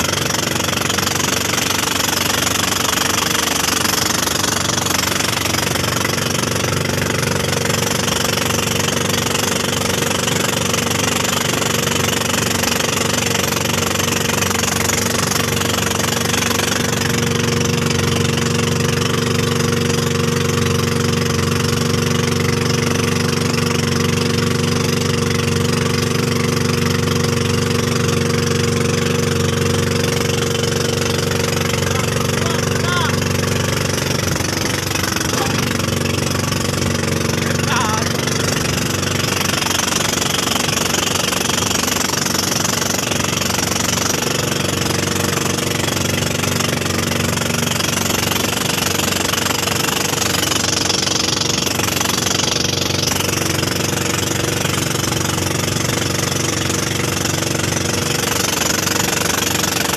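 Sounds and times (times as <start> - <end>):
boat engine running: 0.0 - 59.9
water rushing along hull: 0.0 - 59.9.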